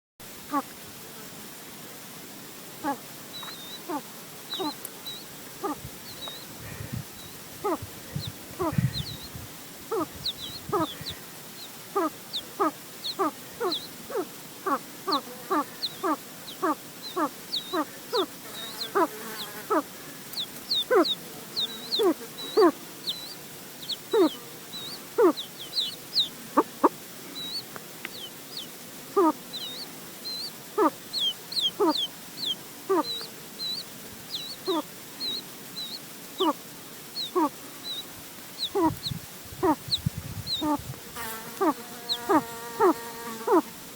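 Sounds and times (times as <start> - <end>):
hen clucking: 2.8 - 7.0, 7.6 - 36.6, 37.2 - 38.0, 38.6 - 43.7
chicks peeping: 2.8 - 36.6, 37.2 - 43.6.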